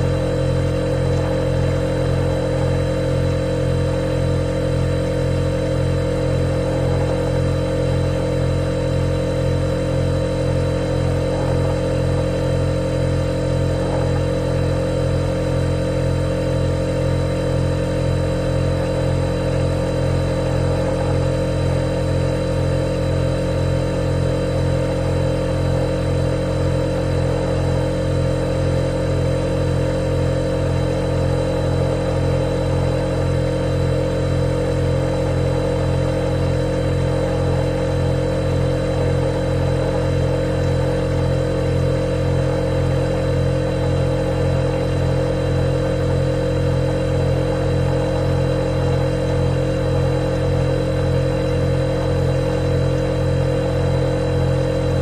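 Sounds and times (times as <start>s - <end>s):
refrigerator compressor hum: 0.0s - 55.0s.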